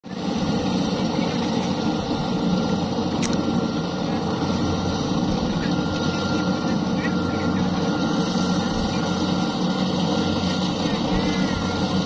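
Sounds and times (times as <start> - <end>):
combine harvester rumbling: 0.0 - 12.0.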